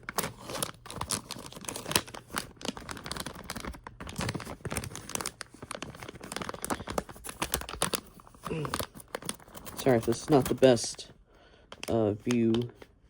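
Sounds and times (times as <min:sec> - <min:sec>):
plastic packaging crinkling: 0:00.0 - 0:11.1, 0:11.7 - 0:12.8.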